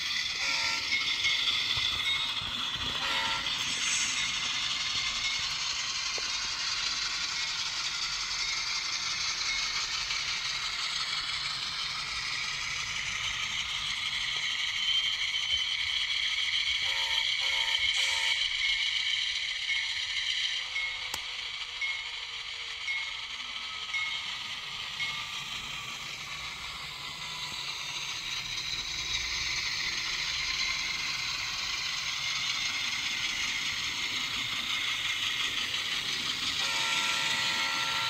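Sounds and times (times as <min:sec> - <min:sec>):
model locomotive diesel engine sound: 0:00.0 - 0:38.0.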